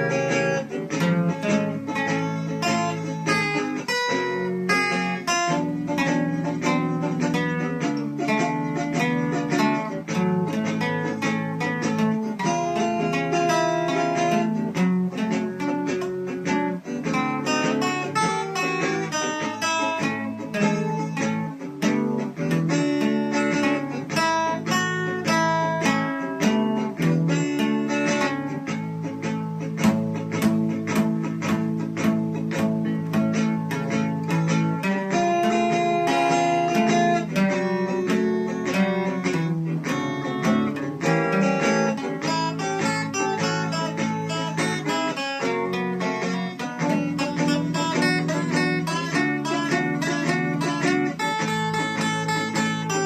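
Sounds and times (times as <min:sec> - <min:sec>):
acoustic guitar picking and strumming: 0:00.0 - 0:53.0.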